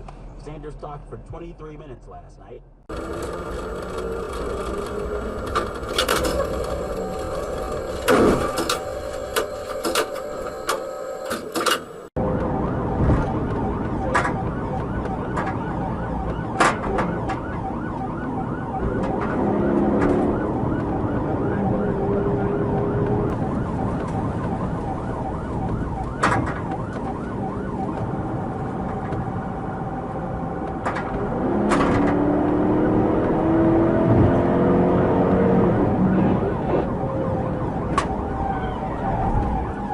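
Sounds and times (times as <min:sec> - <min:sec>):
engine and road noise: 0:00.0 - 0:39.9
police siren: 0:02.9 - 0:39.9.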